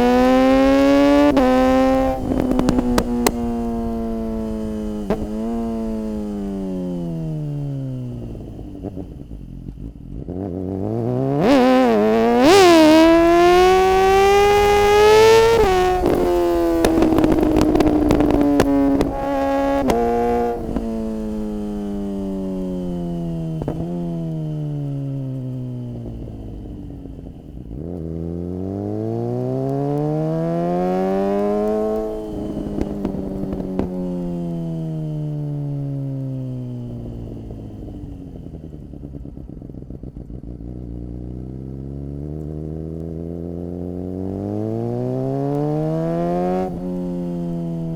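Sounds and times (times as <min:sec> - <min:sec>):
exhaust crackles: 0:00.0 - 0:10.0, 0:11.0 - 0:47.9
sport bike engine accelerating: 0:00.0 - 0:47.9.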